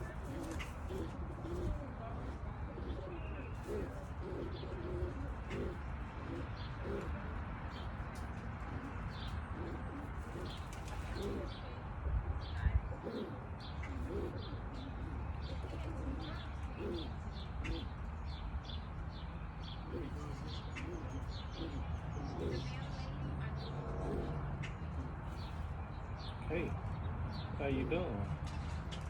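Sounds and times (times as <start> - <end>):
pigeons cooing: 0.0 - 28.1.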